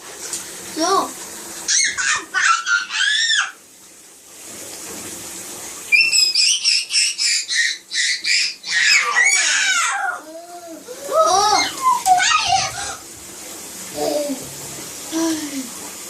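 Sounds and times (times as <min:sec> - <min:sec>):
soft water noise: 0:00.0 - 0:16.0.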